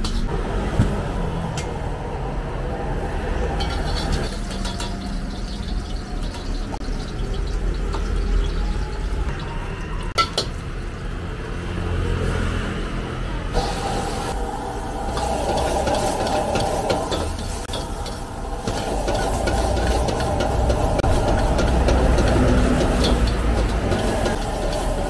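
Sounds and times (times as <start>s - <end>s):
gas burner roaring: 0.0s - 9.3s, 10.4s - 25.0s.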